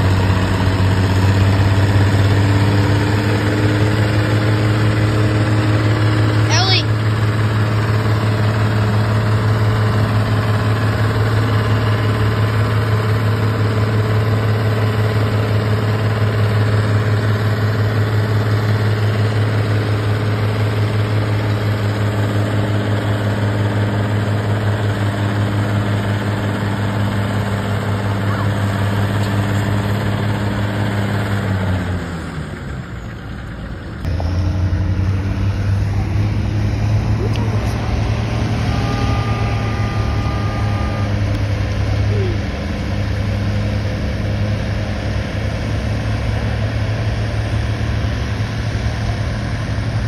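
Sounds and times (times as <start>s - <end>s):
tractor engine running hard: 0.0s - 50.0s.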